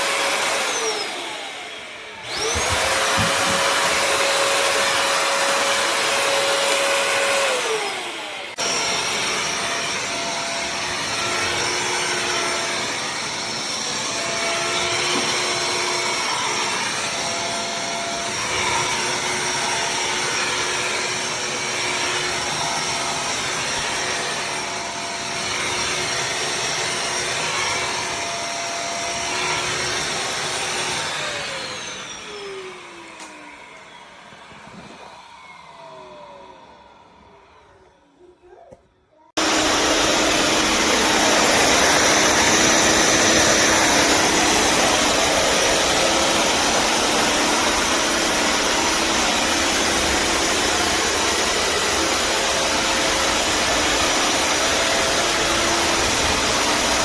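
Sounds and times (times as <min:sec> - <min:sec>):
vacuum motor whine: 0:00.0 - 0:38.1, 0:39.4 - 0:57.0.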